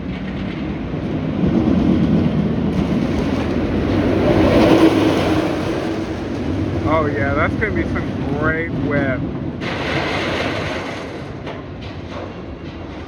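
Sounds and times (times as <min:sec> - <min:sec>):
roller coaster train rumbling: 0:00.0 - 0:13.0.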